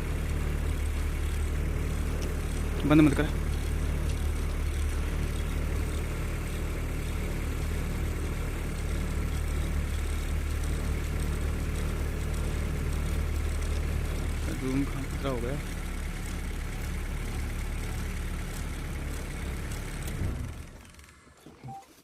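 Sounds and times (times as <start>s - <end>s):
engine idling: 0.0s - 21.8s.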